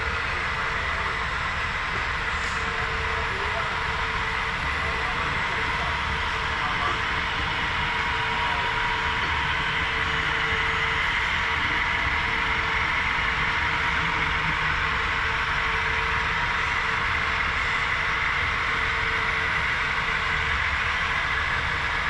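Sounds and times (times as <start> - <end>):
model train diesel engine sound: 0.0 - 22.0.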